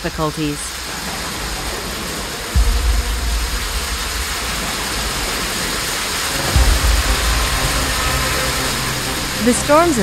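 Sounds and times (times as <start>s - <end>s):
heavy rain and wind hissing: 0.0s - 10.0s
loud low rumble: 0.8s - 10.0s.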